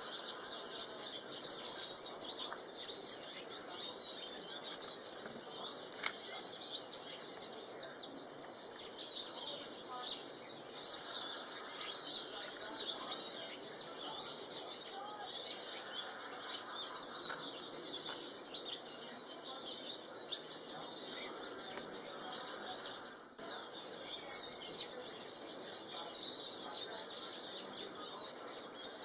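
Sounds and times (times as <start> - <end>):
finches chirping: 0.0 - 29.0.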